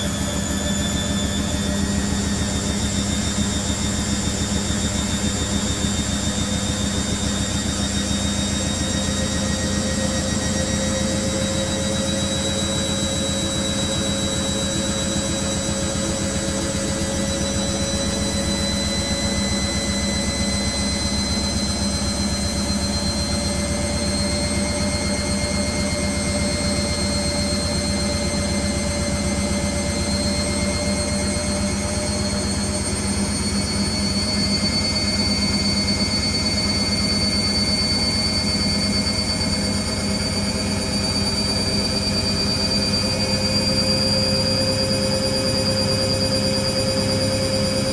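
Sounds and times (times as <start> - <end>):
washing machine spinning: 0.0 - 47.9.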